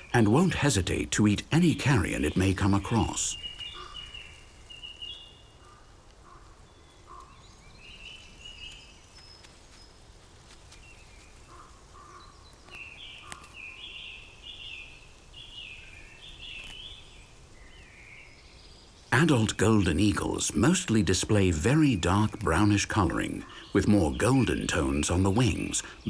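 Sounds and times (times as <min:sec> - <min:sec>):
birds calling: 0:00.0 - 0:10.1, 0:10.7 - 0:26.0
faint steady hiss: 0:00.0 - 0:26.0.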